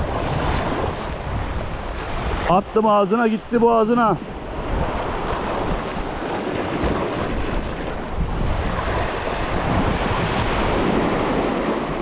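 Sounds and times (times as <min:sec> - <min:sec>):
sea wash: 0:00.0 - 0:12.0
wind buffeting microphone: 0:00.0 - 0:12.0.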